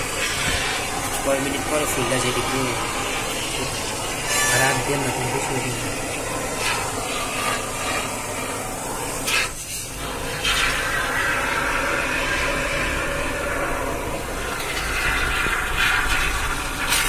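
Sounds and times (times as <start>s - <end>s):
foam can hissing: 0.0s - 17.0s.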